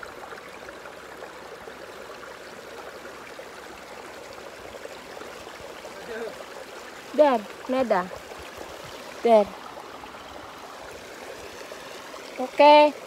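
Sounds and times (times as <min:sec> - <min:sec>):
faint water trickling: 0:00.0 - 0:13.0.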